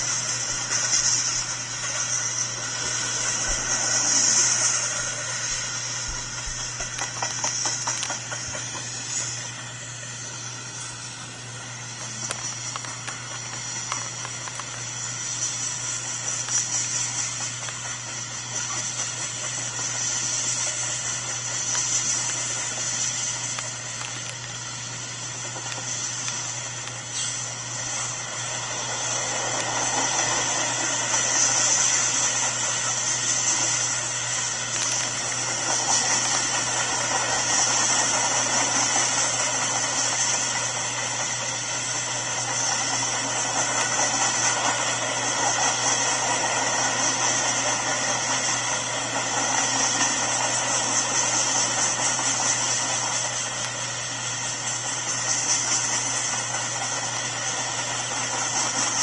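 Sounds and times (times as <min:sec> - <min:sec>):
freight car wheels rolling on rails: 0:00.0 - 0:59.0.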